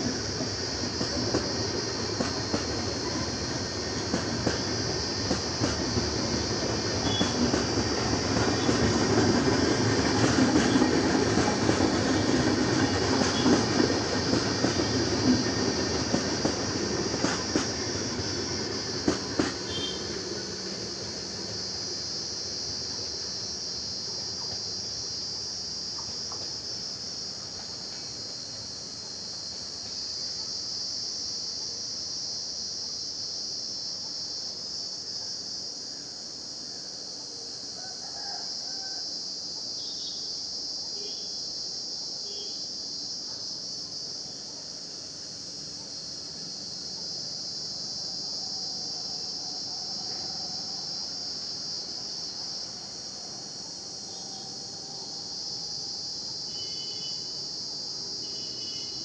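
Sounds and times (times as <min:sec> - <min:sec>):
insects chirring: 0:00.0 - 0:59.0
low rumble of a train: 0:00.0 - 0:59.0.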